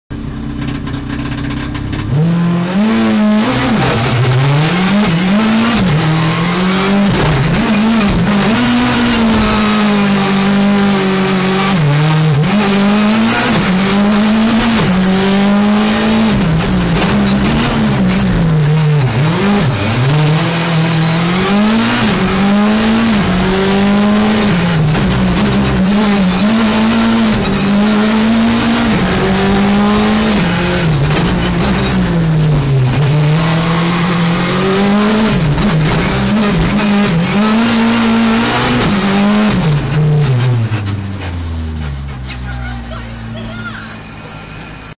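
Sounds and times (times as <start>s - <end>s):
rally car engine revving: 0.1s - 44.9s.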